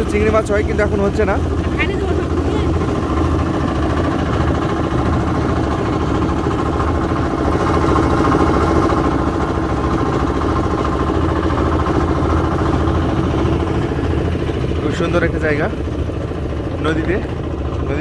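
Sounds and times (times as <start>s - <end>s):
boat engine chugging: 0.0s - 18.0s.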